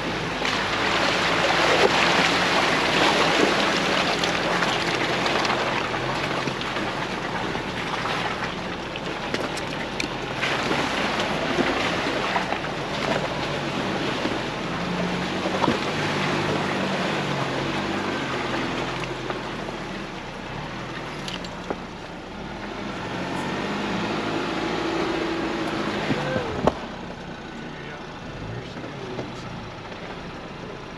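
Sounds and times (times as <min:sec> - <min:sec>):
car engine running: 0:00.0 - 0:30.9
tyres rolling on muddy trail: 0:00.0 - 0:30.9.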